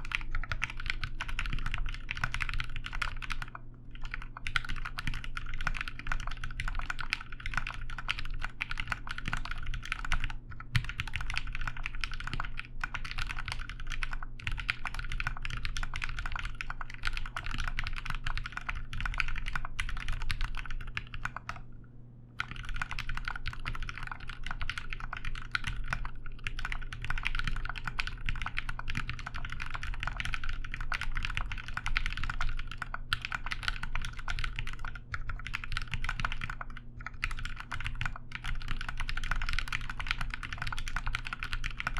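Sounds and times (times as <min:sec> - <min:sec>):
fast typing on mechanical keyboard: 0:00.0 - 0:21.6, 0:22.4 - 0:41.9.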